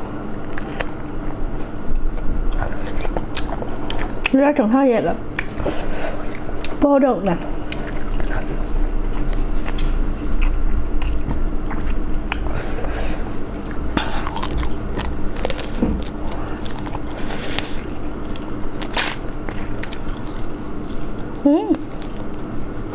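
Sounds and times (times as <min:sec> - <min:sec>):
close-up biting and chewing: 0:00.0 - 0:04.4, 0:07.4 - 0:22.9
steady low hum: 0:00.0 - 0:22.9.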